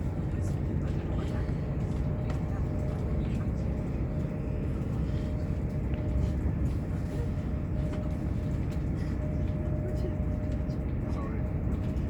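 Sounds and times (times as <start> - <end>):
train wheels and engine rumble: 0.0 - 12.0.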